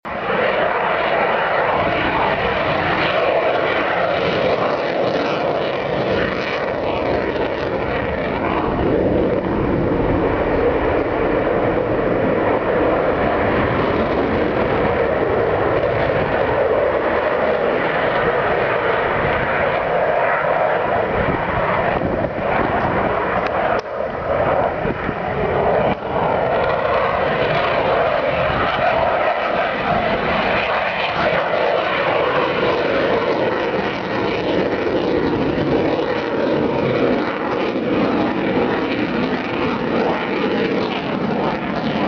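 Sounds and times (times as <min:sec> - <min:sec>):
fighter jet afterburner roar: 0:00.0 - 0:42.0.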